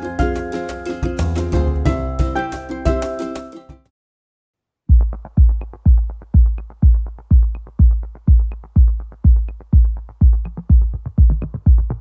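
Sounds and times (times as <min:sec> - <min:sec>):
electronic music with kick beat: 0:00.0 - 0:03.6, 0:04.9 - 0:12.0.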